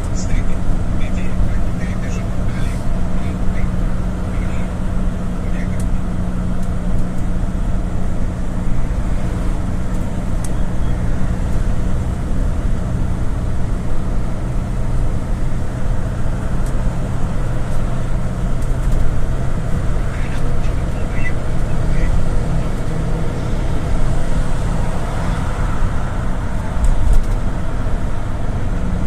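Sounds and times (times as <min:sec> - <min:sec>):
minibus engine and road drone: 0:00.0 - 0:29.0.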